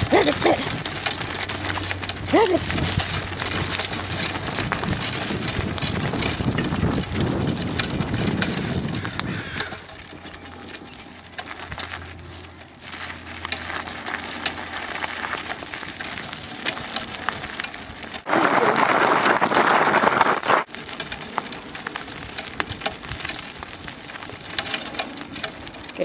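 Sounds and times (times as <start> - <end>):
wheels crunching on gravel: 0.0 - 26.0.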